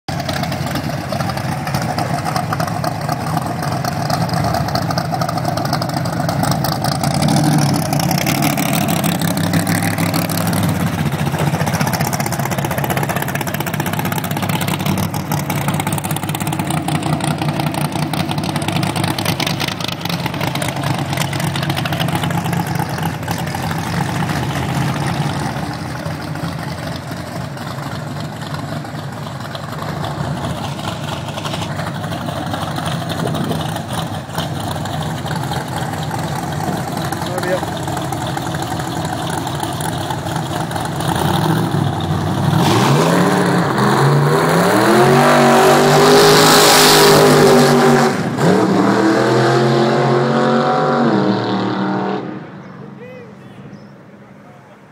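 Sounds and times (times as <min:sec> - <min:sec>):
loud drag car engine revving: 0:00.1 - 0:52.6.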